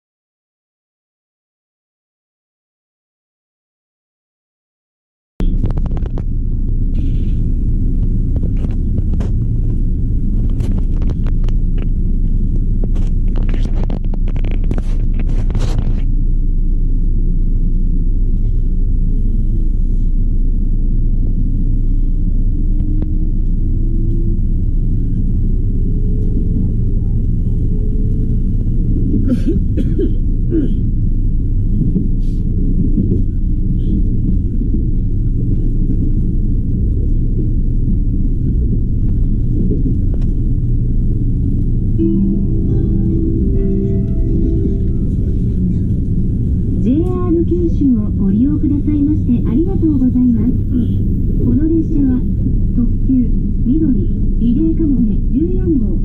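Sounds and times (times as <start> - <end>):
train rumbling: 5.4 - 56.0.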